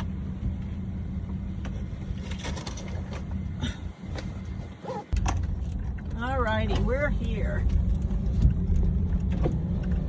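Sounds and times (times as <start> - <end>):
van engine idling: 0.0 - 10.0.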